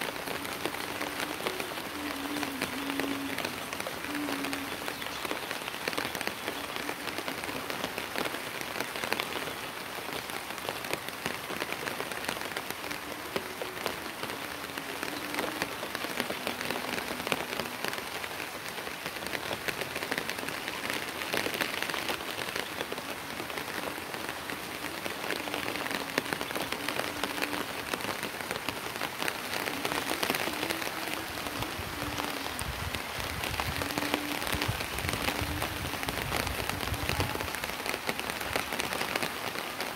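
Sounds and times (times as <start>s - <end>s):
rain falling on a rooftop: 0.0s - 39.9s.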